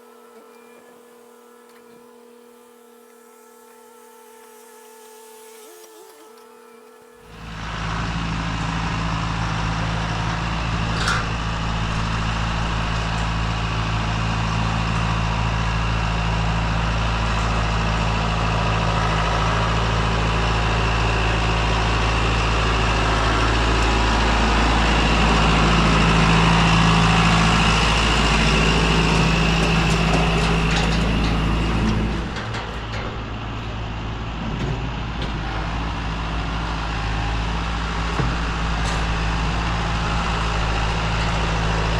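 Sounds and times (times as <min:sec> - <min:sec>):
diesel engine under load: 0:07.3 - 0:41.9.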